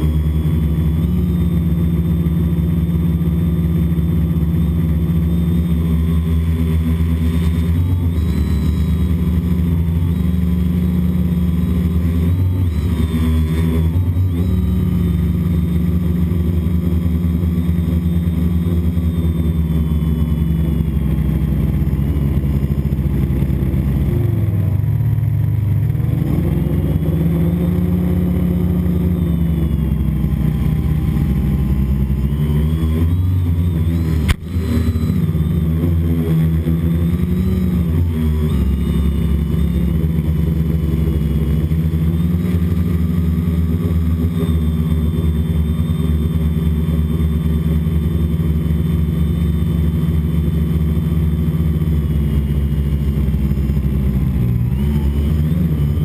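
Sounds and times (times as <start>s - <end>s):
drone motors buzzing whine: 0.0s - 56.0s.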